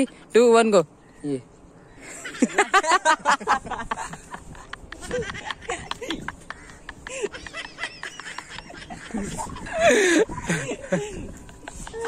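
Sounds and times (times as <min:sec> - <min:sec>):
young men laughing: 0:02.0 - 0:12.0.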